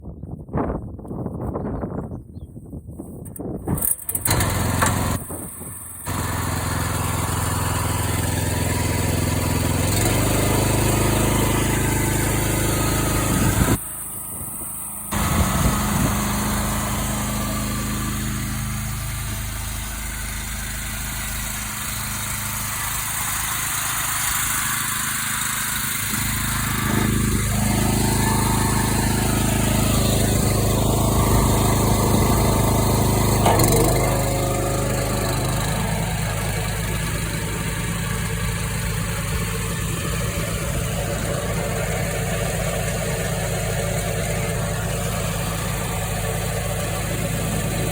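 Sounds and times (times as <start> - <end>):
small petrol engine running: 3.8 - 47.9.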